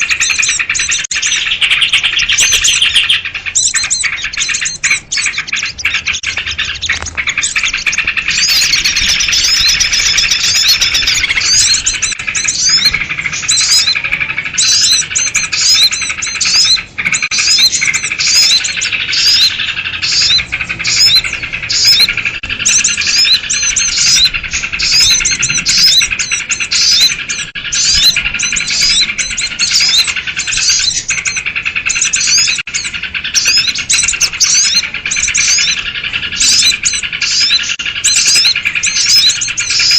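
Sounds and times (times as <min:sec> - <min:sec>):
small birds chattering: 0:00.0 - 0:39.9.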